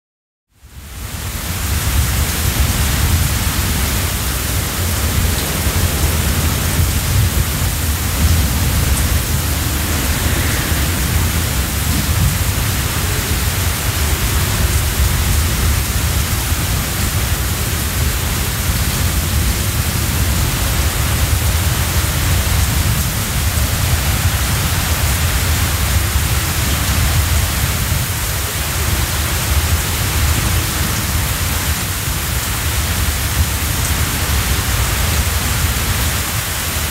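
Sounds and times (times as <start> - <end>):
deep wind rumble: 0.7 - 36.9
storm wind rushing: 1.0 - 36.9.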